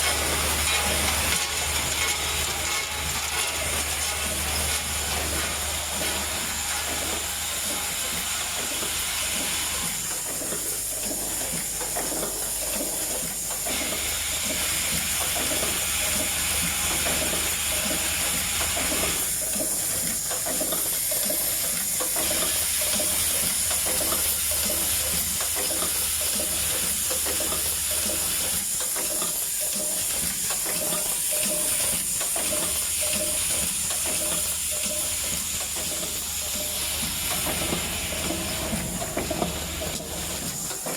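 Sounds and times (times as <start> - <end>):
rapid mechanical clicking: 0.0 - 40.9.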